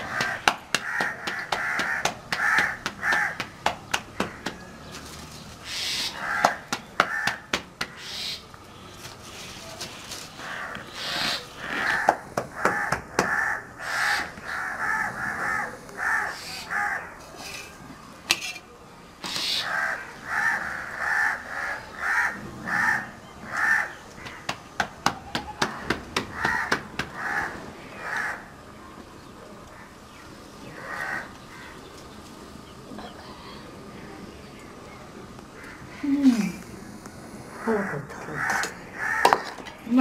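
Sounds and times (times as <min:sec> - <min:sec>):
bird calling: 0:00.0 - 0:17.8, 0:19.2 - 0:28.6, 0:29.7 - 0:34.6, 0:37.5 - 0:40.0.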